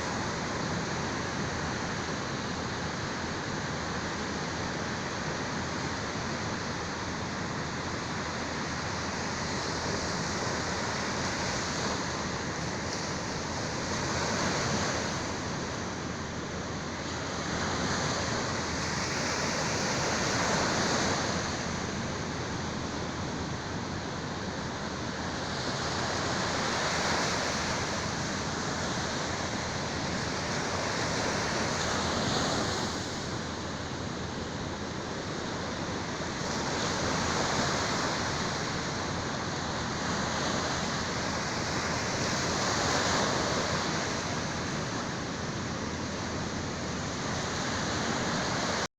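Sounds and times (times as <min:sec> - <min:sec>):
sea waves washing ashore: 0:00.0 - 0:48.9.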